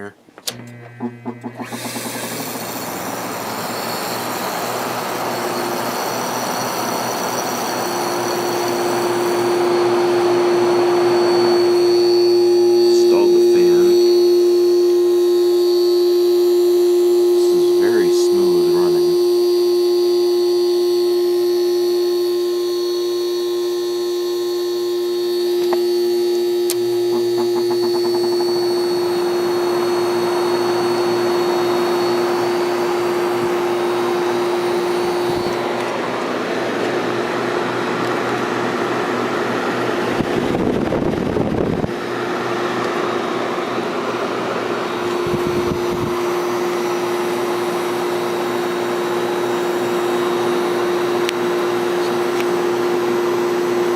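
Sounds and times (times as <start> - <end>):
compressor electrical hum: 0.0 - 53.9.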